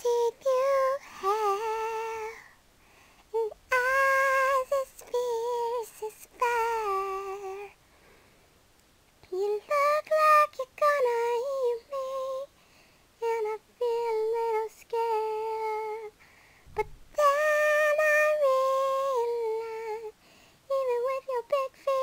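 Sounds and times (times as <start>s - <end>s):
girl singing unaccompanied: 0.0s - 2.6s, 3.2s - 7.8s, 9.2s - 22.0s.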